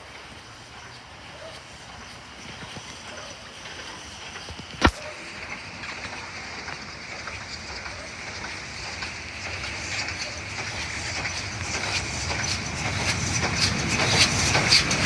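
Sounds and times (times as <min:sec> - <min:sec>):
train rumble and rail noise: 0:00.0 - 0:15.0
wheels clicking: 0:00.2 - 0:15.0.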